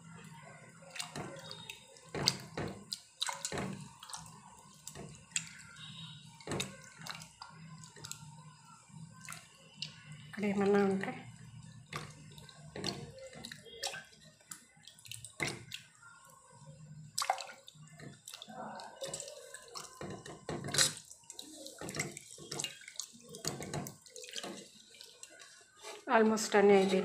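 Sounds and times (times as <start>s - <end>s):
water sloshing in a steel bowl: 0.0s - 27.0s.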